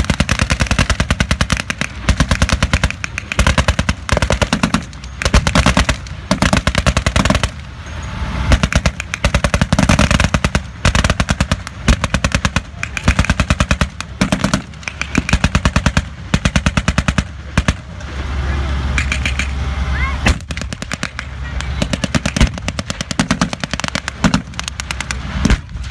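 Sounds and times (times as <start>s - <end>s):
machine guns firing blanks: 0.0s - 17.9s, 20.3s - 25.9s.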